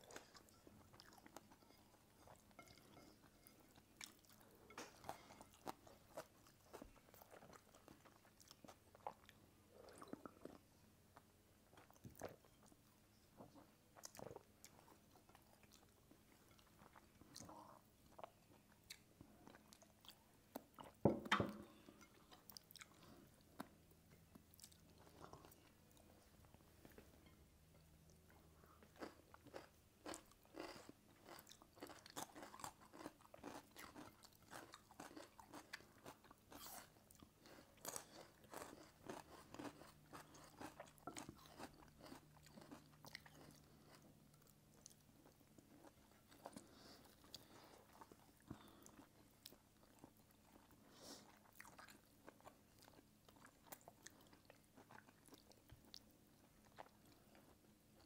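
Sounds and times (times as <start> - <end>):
chewing and crunching food: 0.0 - 21.0, 21.6 - 58.0.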